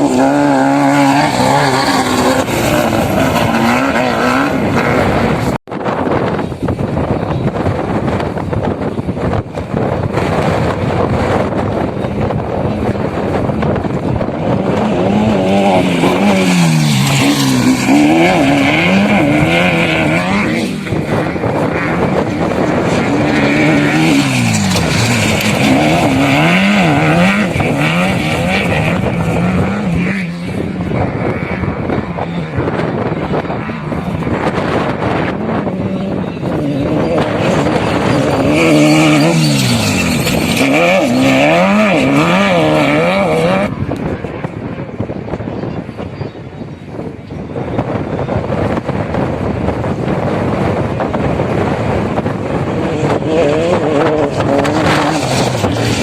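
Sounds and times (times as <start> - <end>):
off-road vehicle engine revving: 0.0 - 5.6, 9.3 - 44.1, 48.6 - 56.0
driving noise: 0.0 - 56.0.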